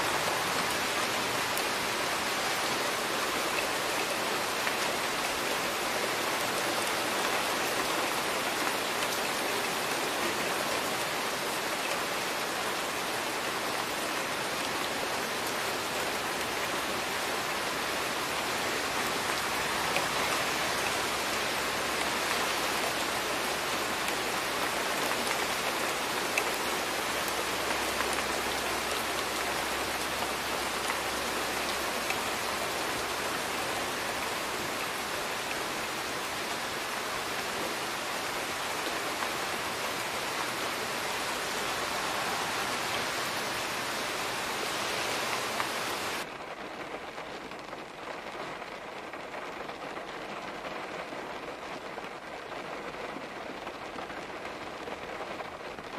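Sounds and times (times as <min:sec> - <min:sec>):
light drizzle falling: 0:00.0 - 0:55.9.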